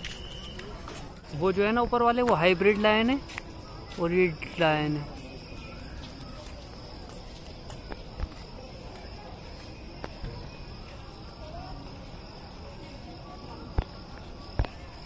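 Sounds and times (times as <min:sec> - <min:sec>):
faint distant voices: 0:00.0 - 0:15.0.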